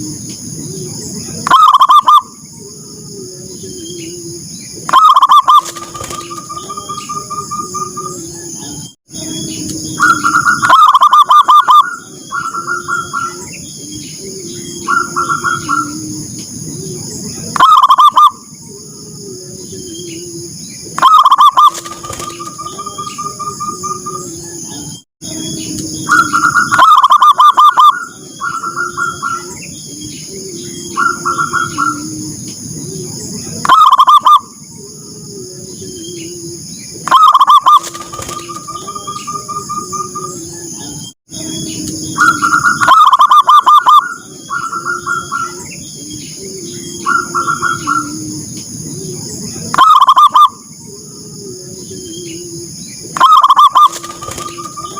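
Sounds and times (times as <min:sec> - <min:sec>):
doves cooing: 0:00.0 - 0:54.9.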